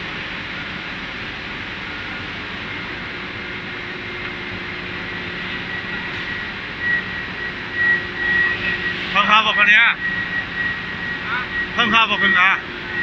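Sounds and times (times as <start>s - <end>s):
induction furnace hissing: 0.0s - 13.0s
thin high whine: 0.0s - 13.0s.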